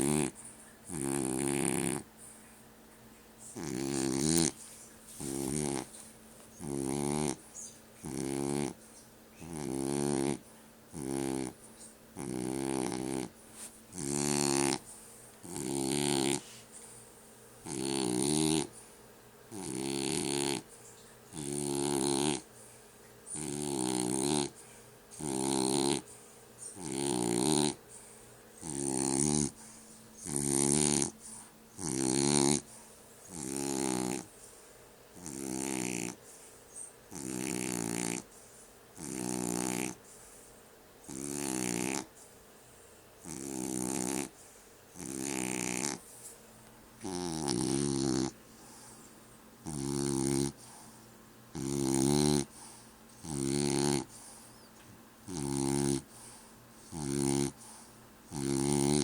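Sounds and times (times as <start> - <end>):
dog snoring: 0.0 - 2.4, 3.4 - 8.8, 9.4 - 17.0, 17.6 - 18.9, 19.5 - 22.7, 23.3 - 46.3, 47.0 - 59.0.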